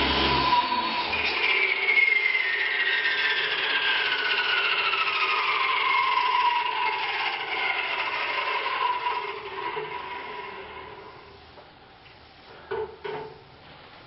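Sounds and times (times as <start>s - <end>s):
wall chaser motor whine spinning down: 0.0s - 11.4s.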